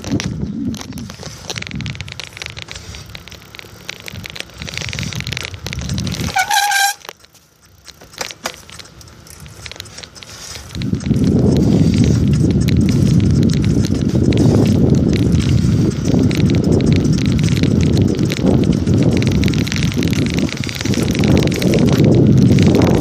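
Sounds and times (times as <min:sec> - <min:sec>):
bicycle rattling over rough trail: 0:00.0 - 0:23.0.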